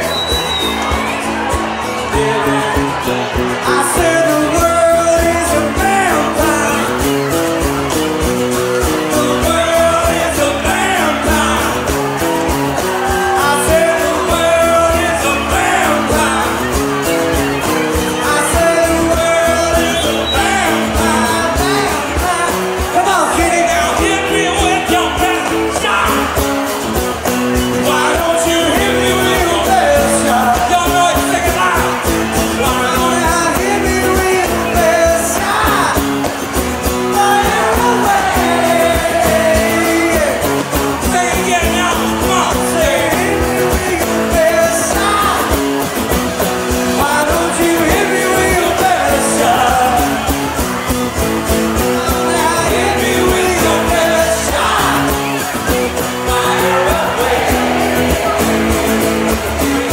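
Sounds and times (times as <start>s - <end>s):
drums: 0.0s - 59.9s
strummed acoustic guitars: 0.0s - 59.9s
person singing: 1.4s - 7.4s, 8.7s - 12.2s, 12.8s - 26.5s, 27.6s - 36.3s, 36.9s - 45.9s, 46.7s - 50.5s, 51.5s - 59.9s.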